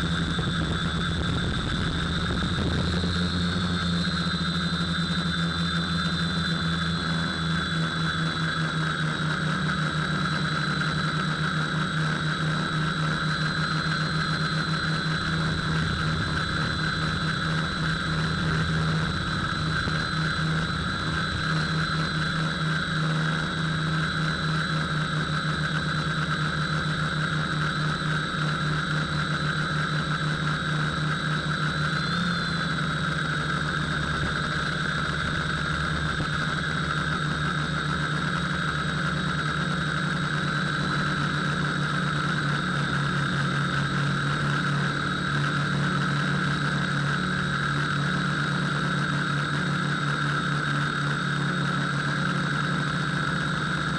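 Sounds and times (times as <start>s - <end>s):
electric motor and propeller hum: 0.0s - 53.9s.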